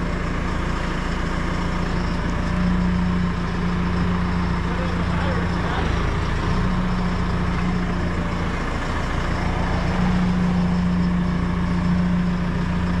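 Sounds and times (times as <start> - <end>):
loader engine rumbling: 0.0 - 13.0.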